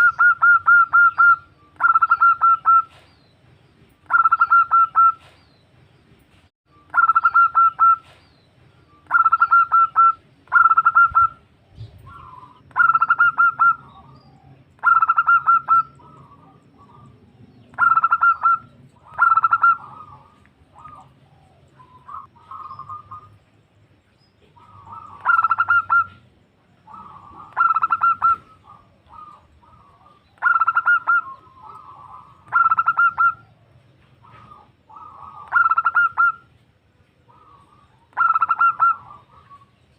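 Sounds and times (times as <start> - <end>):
dove cooing: 0.0 - 3.0, 4.1 - 5.4, 6.9 - 8.2, 9.1 - 23.4, 24.4 - 36.6, 37.2 - 39.9.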